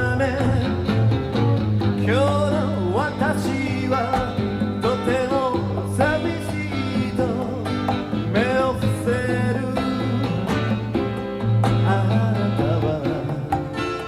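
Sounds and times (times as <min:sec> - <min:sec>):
bluesy guitar duo: 0:00.0 - 0:14.0.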